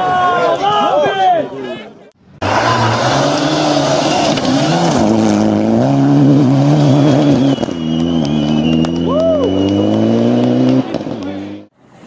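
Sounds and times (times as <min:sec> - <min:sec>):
rally car engines revving: 0:02.3 - 0:12.0.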